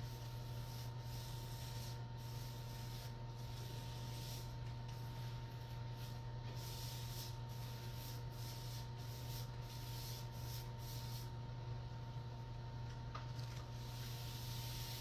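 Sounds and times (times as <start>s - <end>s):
low electrical hum: 0.0s - 15.0s
paint brush swishing on wall: 0.1s - 11.2s, 13.8s - 15.0s.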